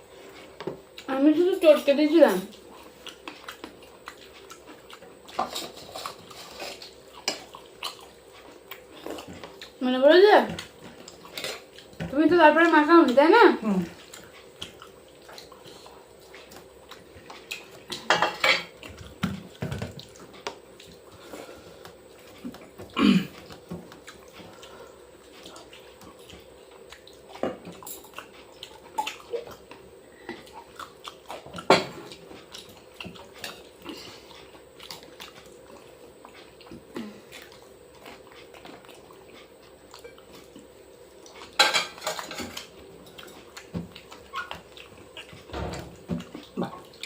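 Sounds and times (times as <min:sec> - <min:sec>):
person chewing: 0:02.5 - 0:09.8, 0:10.6 - 0:12.1, 0:13.8 - 0:18.1, 0:18.7 - 0:47.0.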